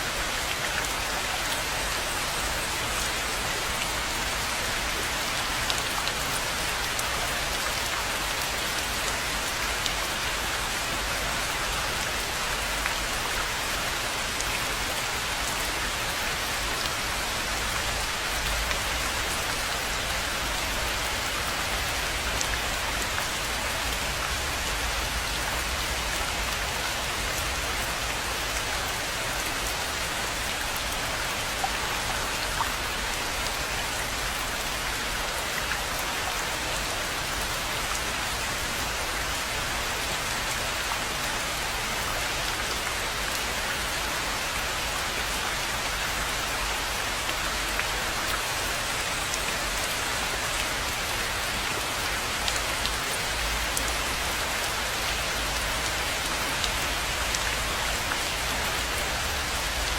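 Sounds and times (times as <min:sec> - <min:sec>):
steady rain falling on pond: 0:00.0 - 0:59.9.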